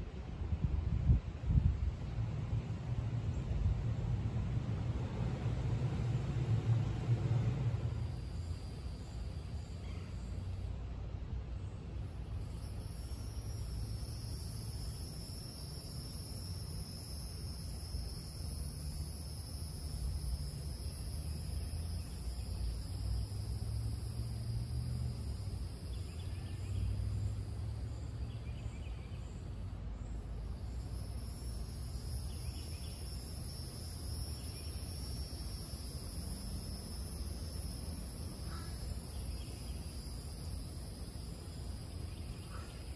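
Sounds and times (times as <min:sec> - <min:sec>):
insects buzzing trill: 0:07.3 - 0:10.8, 0:11.6 - 0:42.9.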